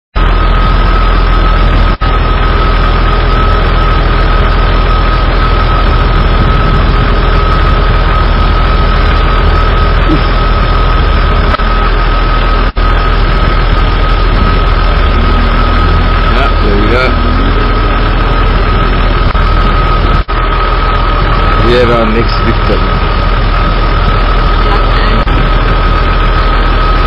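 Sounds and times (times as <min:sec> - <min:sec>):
high whine: 0:00.1 - 0:27.0
truck engine running slowly: 0:00.2 - 0:27.0.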